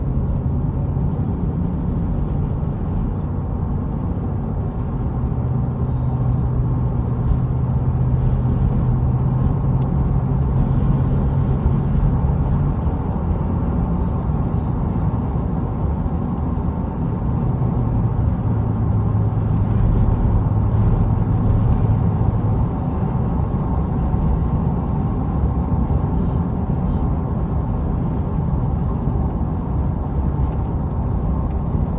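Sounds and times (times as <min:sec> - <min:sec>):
low droning hum: 0:00.0 - 0:31.9
vehicle low rumble: 0:00.0 - 0:31.9.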